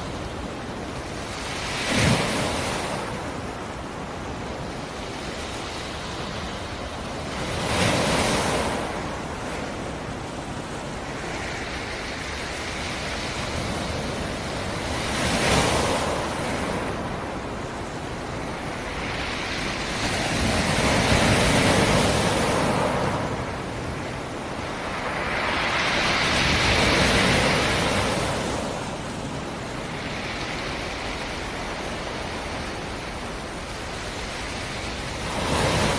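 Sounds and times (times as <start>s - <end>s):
waves crashing: 0.0s - 35.9s.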